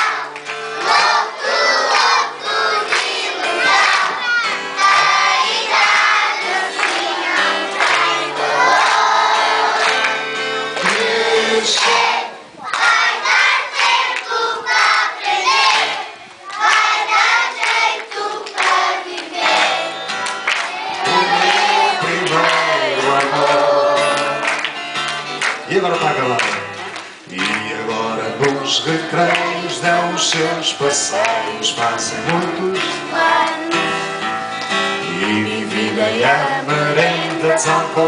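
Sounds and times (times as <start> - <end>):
children singing: 0.0 - 10.1, 10.7 - 24.5, 28.1 - 34.0, 35.4 - 38.0
acoustic guitar: 0.0 - 12.4, 18.4 - 38.0.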